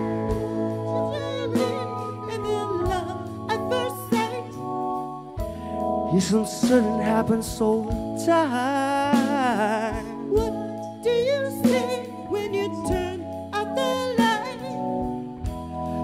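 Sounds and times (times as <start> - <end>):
person singing: 0.0 - 5.5, 6.1 - 14.9
live band playing: 0.0 - 16.0.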